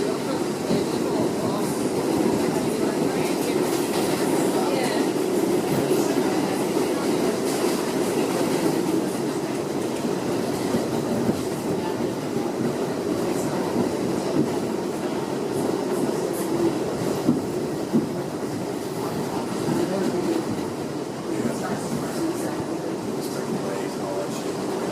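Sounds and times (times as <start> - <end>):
subway car wheels rumbling on rails: 0.0 - 24.9
clickety-clack over rail joints: 0.2 - 24.9.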